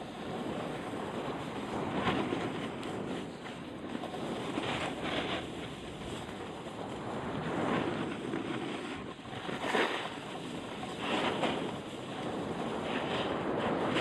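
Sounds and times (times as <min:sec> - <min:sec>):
skis scraping packed snow: 0:00.0 - 0:14.0
wind on microphone: 0:00.0 - 0:14.0.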